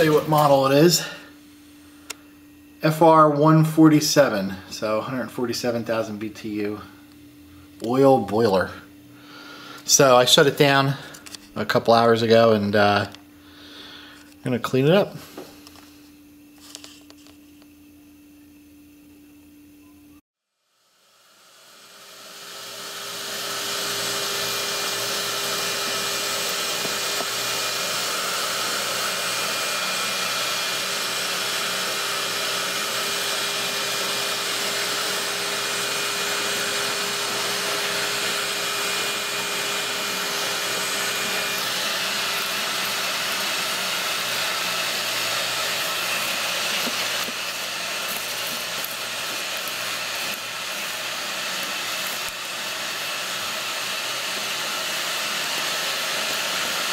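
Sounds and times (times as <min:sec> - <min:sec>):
vacuum cleaner motor whining: 0:00.0 - 0:01.4, 0:02.0 - 0:17.4, 0:20.8 - 0:56.9.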